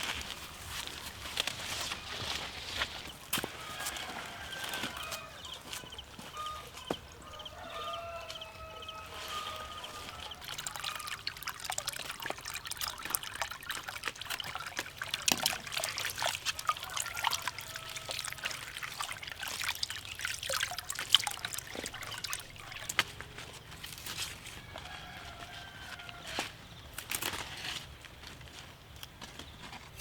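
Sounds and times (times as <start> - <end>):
water trickling and splashing: 0.0 - 27.9.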